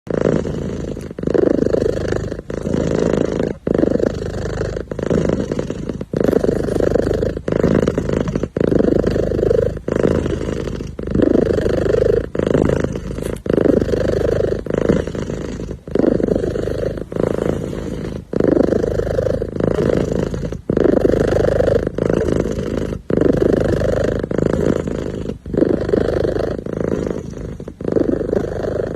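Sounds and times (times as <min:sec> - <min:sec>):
kitten purring: 0:00.1 - 0:28.9.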